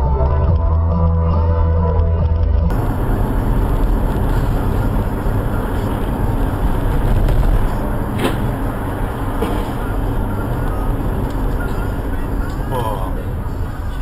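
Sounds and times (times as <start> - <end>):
car engine and tyres rumbling: 2.4 - 14.0.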